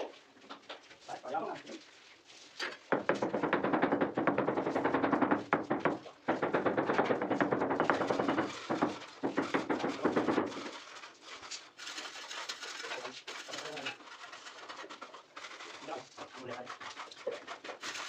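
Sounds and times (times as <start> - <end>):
rapid tapping on floor tile: 2.3 - 18.0.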